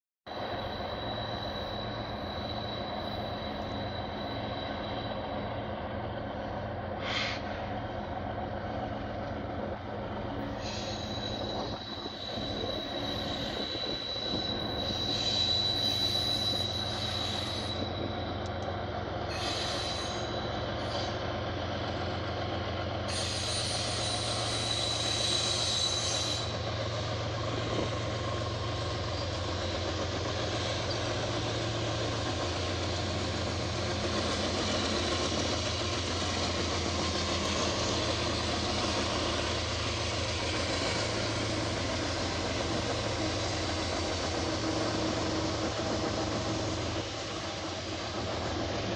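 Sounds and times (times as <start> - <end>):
wheel flange squeal: 0.3 - 5.7, 9.8 - 21.3, 22.0 - 48.9
locomotive engine rumble: 0.3 - 48.9.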